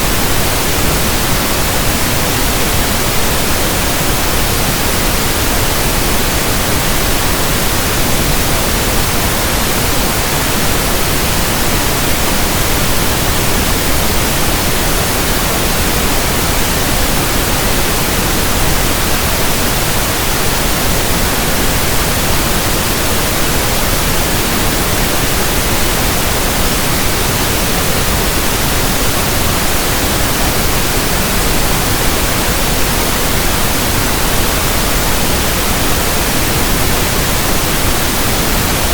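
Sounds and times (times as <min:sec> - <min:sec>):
steady pink noise hiss: 0:00.0 - 0:38.9.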